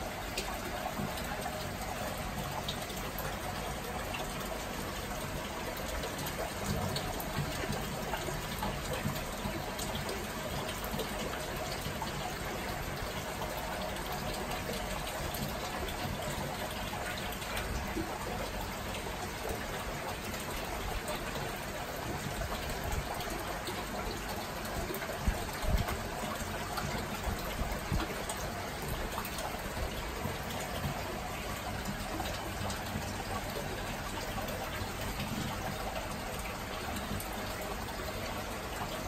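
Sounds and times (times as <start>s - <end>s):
aquarium water bubbling: 0.0s - 39.0s.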